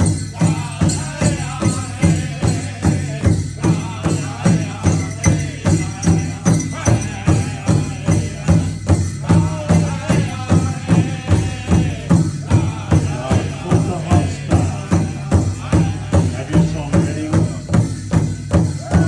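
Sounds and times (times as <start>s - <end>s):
drum steady beat: 0.0s - 19.0s
voices chanting: 0.0s - 19.0s.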